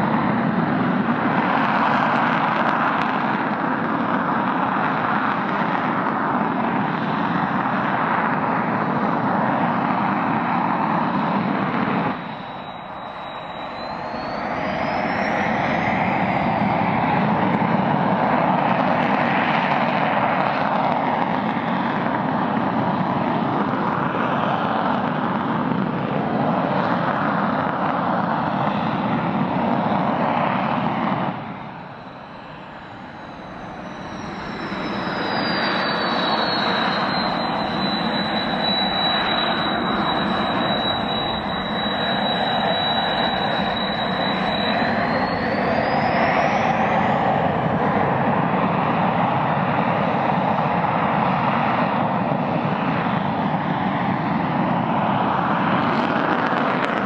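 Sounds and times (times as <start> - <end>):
jet engines roaring with high whine: 0.0 - 57.0.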